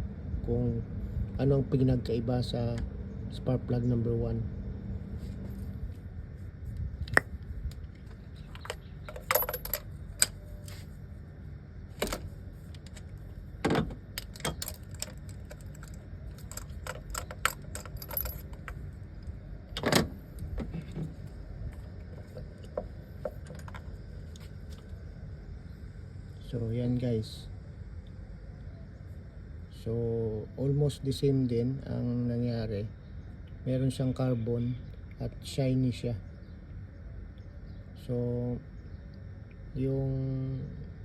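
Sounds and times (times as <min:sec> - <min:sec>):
low background hum: 0:00.0 - 0:41.0.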